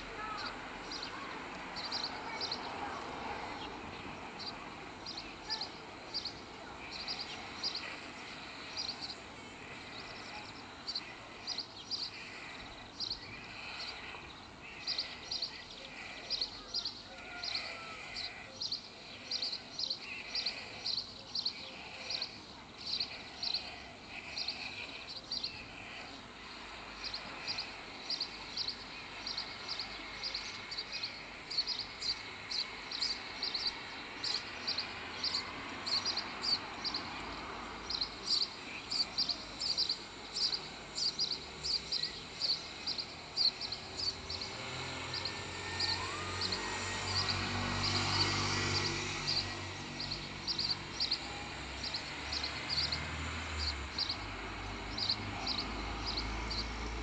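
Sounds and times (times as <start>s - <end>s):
stork chicks begging calls: 0.0s - 57.0s.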